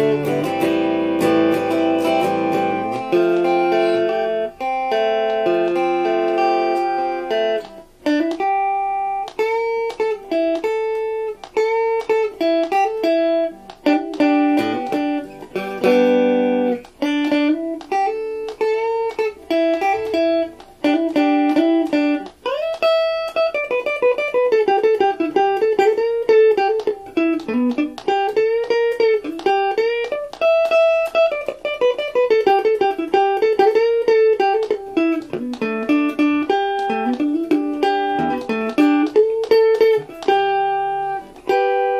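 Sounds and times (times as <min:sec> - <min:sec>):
electric guitar melody: 0:00.0 - 0:41.9.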